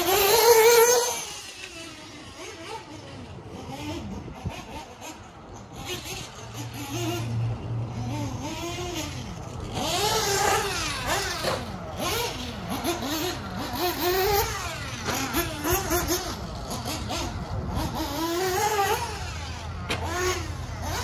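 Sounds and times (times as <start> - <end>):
small nitro engine revving: 0.0 - 21.0.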